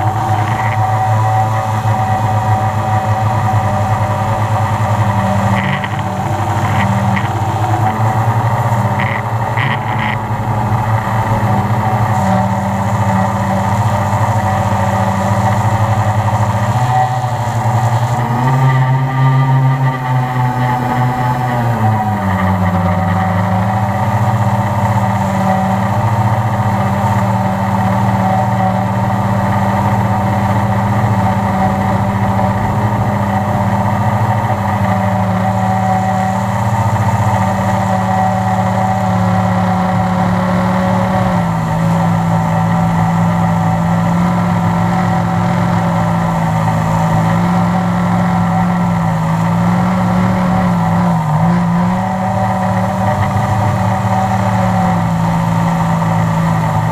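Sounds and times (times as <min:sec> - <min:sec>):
drone motors humming: 0:00.0 - 0:56.9.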